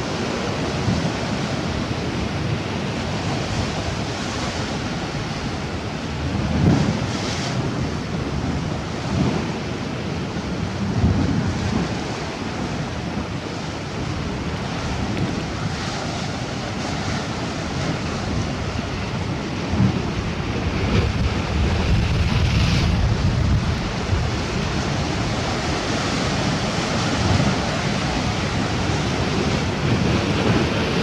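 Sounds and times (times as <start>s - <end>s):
sea waves washing on shore: 0.0s - 31.0s
wind gusting on microphone: 0.0s - 31.0s.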